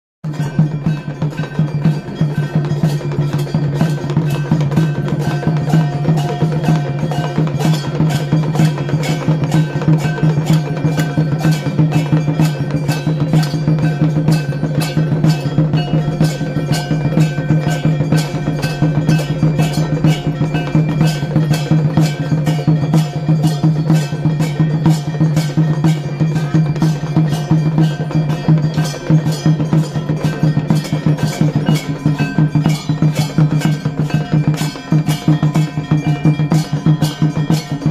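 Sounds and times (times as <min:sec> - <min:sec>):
struck percussion in fast rhythm: 0:00.2 - 0:37.9
temple bells: 0:00.2 - 0:37.9.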